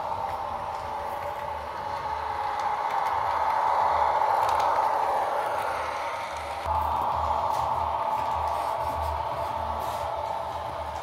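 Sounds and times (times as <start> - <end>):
model railcar diesel engine sound: 0.0 - 11.0
model train running on track: 0.0 - 11.0.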